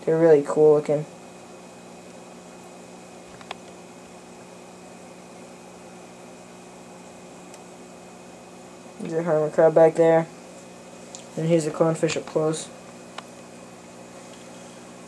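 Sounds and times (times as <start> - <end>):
aquarium equipment hum and hiss: 0.0 - 15.0.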